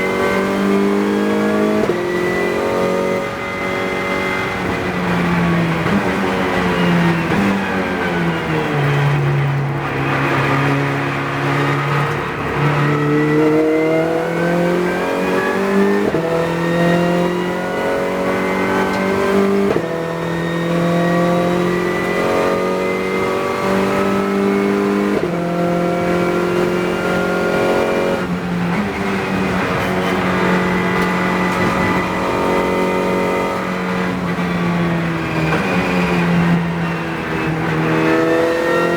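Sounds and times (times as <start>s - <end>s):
race car engine under hard throttle: 0.0s - 38.9s.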